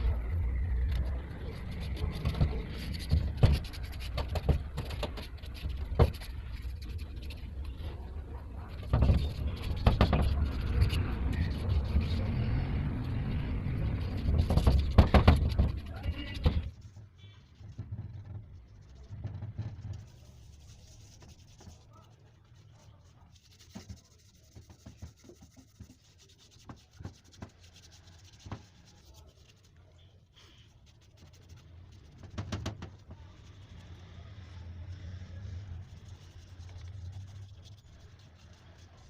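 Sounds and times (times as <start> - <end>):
engine parts scraping and clicking: 0.0 - 39.0.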